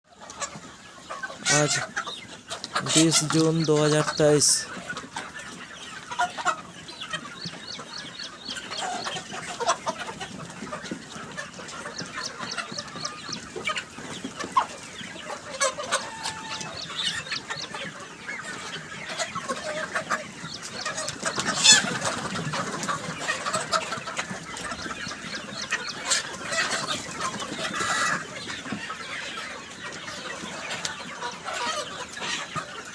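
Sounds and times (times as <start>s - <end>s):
chickens clucking: 0.1s - 32.9s.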